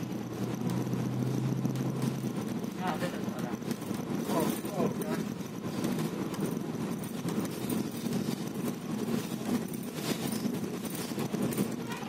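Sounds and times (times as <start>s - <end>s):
bus engine rumble and road noise: 0.0s - 12.0s
faint rattles: 0.0s - 12.0s.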